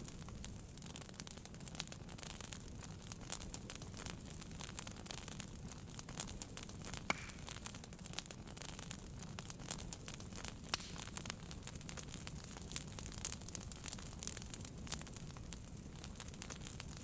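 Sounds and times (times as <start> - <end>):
fire crackling and popping: 0.0 - 17.0
low rumble of flame: 0.0 - 17.0.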